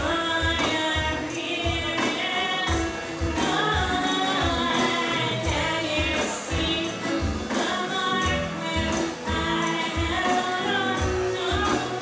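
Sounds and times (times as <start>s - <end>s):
acoustic guitar: 0.0s - 12.0s
steady drum beat: 0.0s - 12.0s
woman singing: 0.0s - 12.0s.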